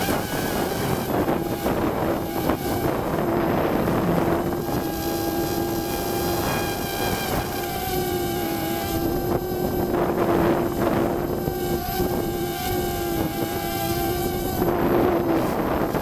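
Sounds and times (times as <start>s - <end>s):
drone propellers whining: 0.0s - 16.0s
wind rushing over microphone: 0.0s - 16.0s.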